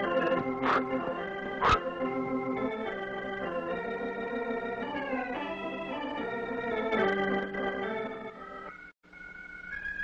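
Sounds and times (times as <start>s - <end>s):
organ music: 0.0s - 10.0s.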